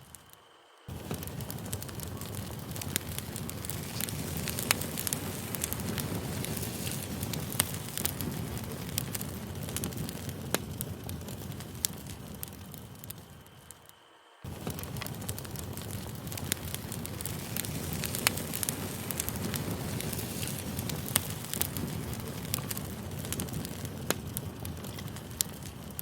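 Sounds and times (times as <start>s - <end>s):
burning wood crackling: 0.0s - 26.0s
campfire flames rushing: 0.0s - 26.0s.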